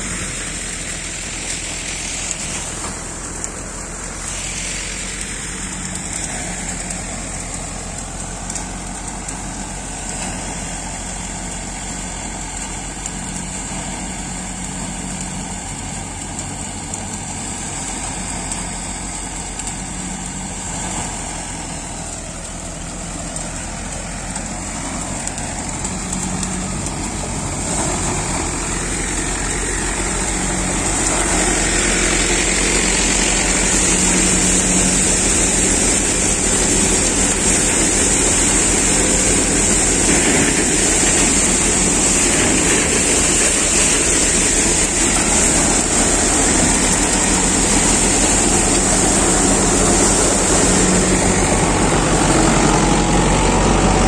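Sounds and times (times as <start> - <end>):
grain thresher high-pitched hiss: 0.0 - 54.0
tractor engine running under load: 0.0 - 54.0.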